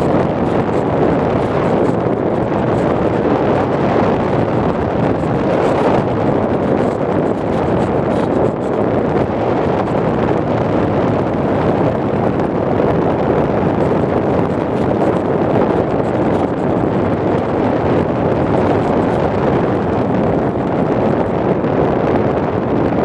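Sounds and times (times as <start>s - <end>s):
air buffeting microphone: 0.0s - 23.0s.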